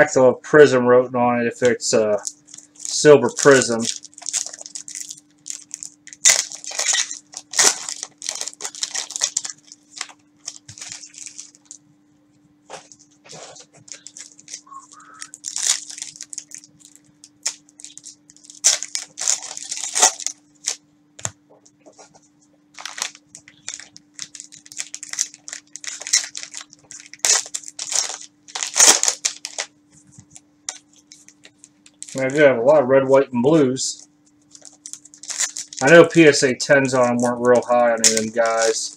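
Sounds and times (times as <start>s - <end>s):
faint steady hum: 0.0s - 38.9s
cellophane wrappers crinkling: 1.6s - 11.8s, 12.7s - 20.8s, 21.9s - 32.5s, 33.9s - 38.9s.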